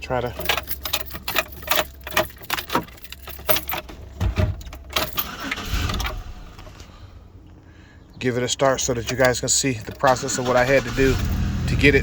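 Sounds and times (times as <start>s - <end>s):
car keys jangling: 0.0s - 6.8s, 8.6s - 12.0s.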